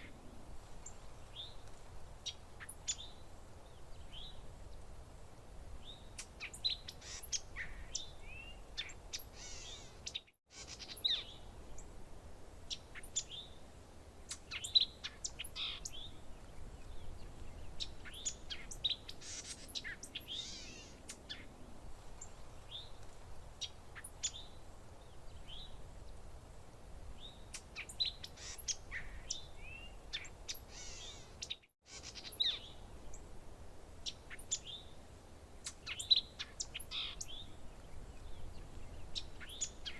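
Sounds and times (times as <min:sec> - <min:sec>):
songbirds chirping and trilling: 0:00.0 - 0:05.1, 0:05.7 - 0:26.4, 0:27.0 - 0:39.9
faint low background noise: 0:00.0 - 0:39.9.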